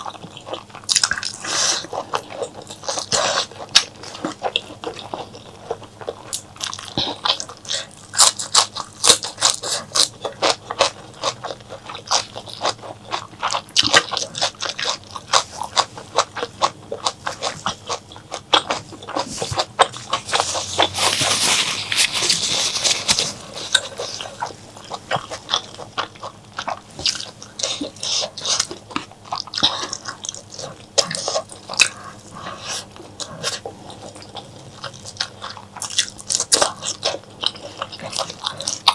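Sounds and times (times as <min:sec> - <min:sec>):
close chewing and biting: 0:00.0 - 0:38.9.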